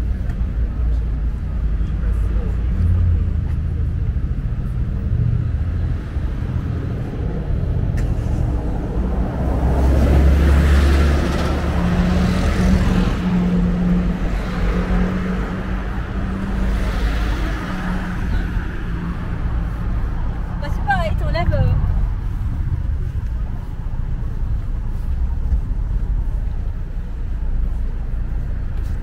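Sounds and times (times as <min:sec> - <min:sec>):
cars passing close by: 0:00.0 - 0:29.0
low traffic rumble: 0:00.0 - 0:29.0.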